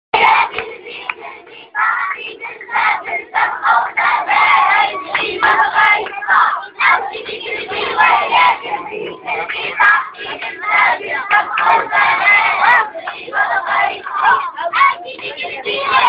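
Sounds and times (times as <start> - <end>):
crowd of voices: 0.1 - 16.0.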